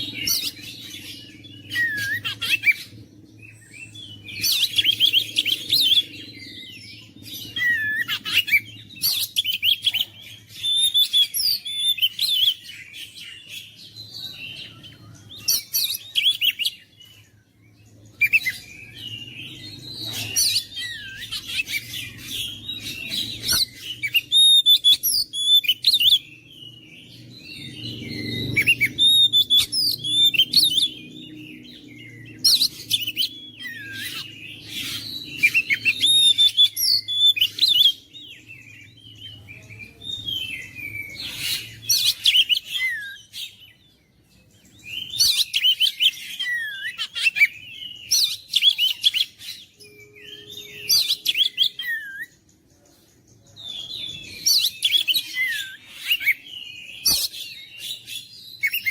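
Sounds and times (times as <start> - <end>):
magpie-robin whistles and chirps: 0.0 - 17.3, 18.1 - 52.4, 53.5 - 58.9.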